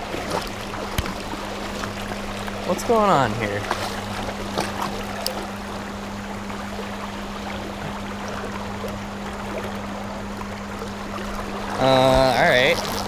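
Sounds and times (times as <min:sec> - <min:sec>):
creek water rushing: 0:00.0 - 0:13.0
steady low hum: 0:00.0 - 0:13.0.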